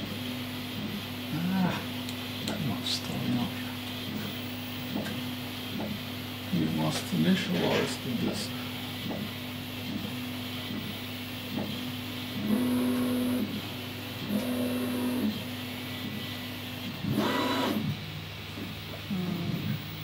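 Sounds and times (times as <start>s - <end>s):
computer hum: 0.0s - 20.0s.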